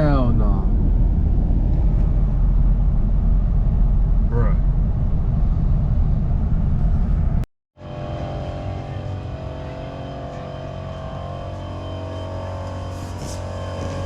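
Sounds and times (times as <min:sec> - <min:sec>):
car engine and road rumble: 0:00.0 - 0:14.0
engine hum: 0:00.0 - 0:14.0.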